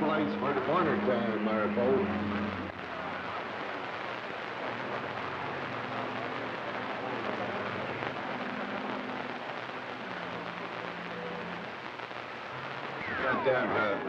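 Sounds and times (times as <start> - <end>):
faint steady radio tones: 0.0 - 14.0
radio static hiss: 0.0 - 14.0.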